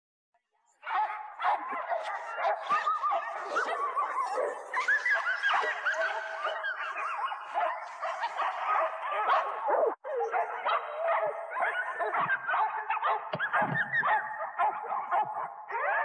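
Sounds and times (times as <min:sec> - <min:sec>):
dogs barking and yipping: 0:00.8 - 0:16.0.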